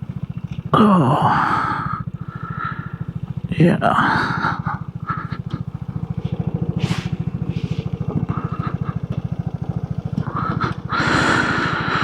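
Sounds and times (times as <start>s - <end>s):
scooter engine putter: 0.0s - 12.0s.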